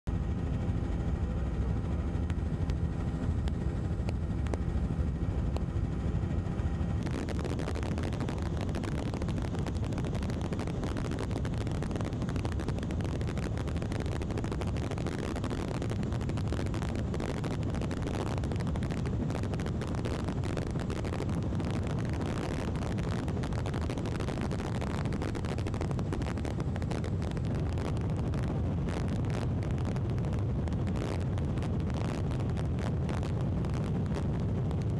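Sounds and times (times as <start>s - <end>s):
aircraft engine drone: 0.1s - 34.9s.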